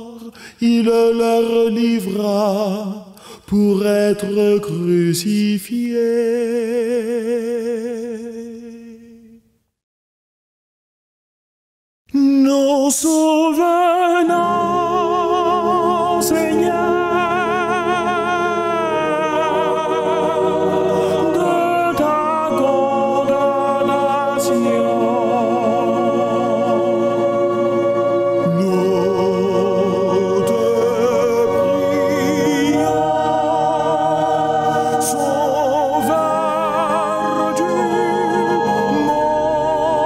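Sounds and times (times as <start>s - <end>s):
person singing a hymn: 0.0s - 9.4s, 12.1s - 40.0s.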